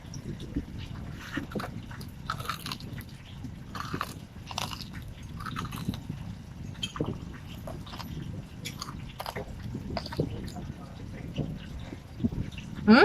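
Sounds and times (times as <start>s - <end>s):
chewing crispy fried chicken: 0.0s - 12.9s.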